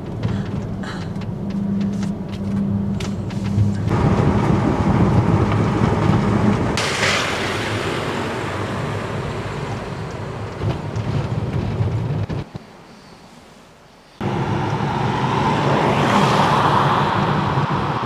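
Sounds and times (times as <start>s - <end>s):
road noise: 0.0s - 18.0s
van engine hum: 0.0s - 18.0s.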